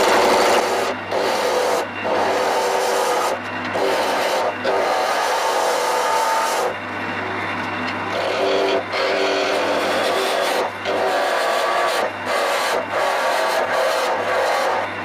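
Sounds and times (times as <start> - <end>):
turning tool cutting wood: 0.0 - 15.0
wood lathe motor hum: 0.0 - 15.0.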